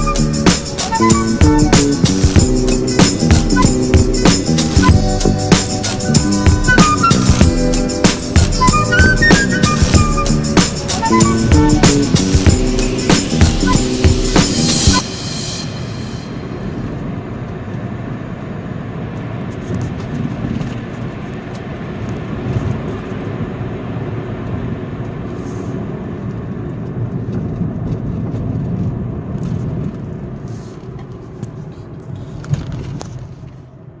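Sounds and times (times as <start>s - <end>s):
car tyre and engine noise: 0.0s - 34.0s.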